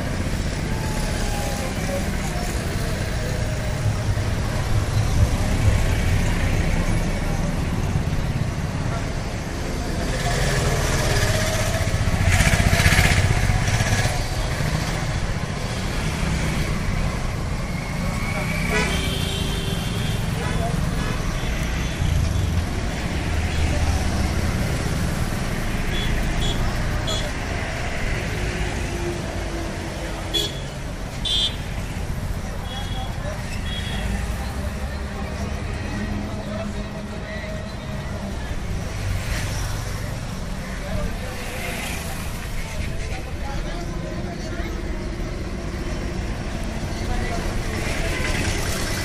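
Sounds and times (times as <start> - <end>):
road noise: 0.0 - 49.0
traffic engine rumble: 0.0 - 49.0.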